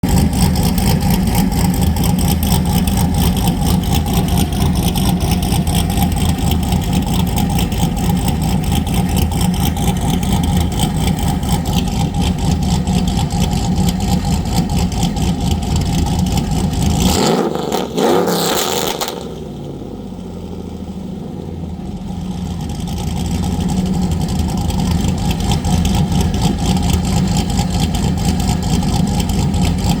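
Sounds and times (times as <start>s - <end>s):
choppy engine idling: 0.0s - 30.0s.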